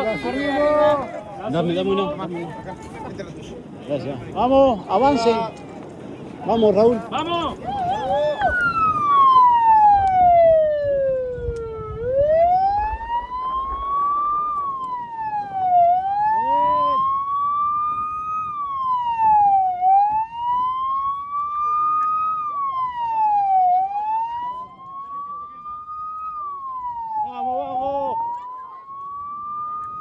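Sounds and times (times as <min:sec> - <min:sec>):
siren wailing: 0:00.0 - 0:02.0, 0:07.4 - 0:30.0.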